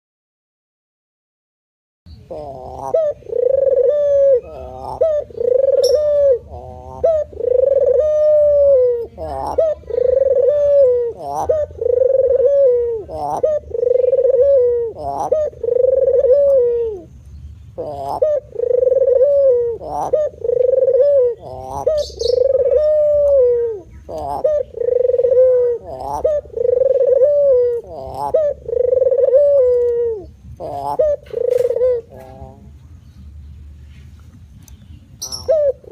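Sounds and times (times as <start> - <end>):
dove cooing: 2.3 - 17.1, 17.7 - 32.8, 35.2 - 35.9.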